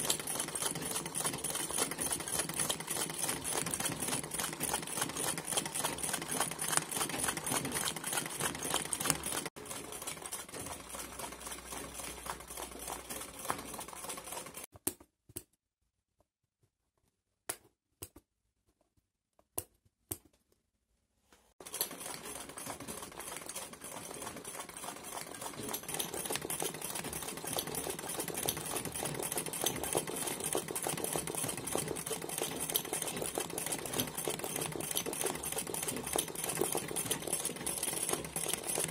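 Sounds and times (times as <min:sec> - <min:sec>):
sewing machine stitching clatter: 0:00.0 - 0:14.7, 0:21.6 - 0:38.9.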